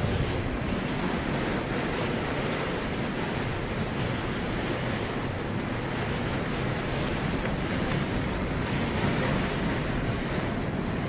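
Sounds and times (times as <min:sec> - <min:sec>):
heavy rain: 0:00.0 - 0:11.0
wind rushing: 0:00.0 - 0:11.0.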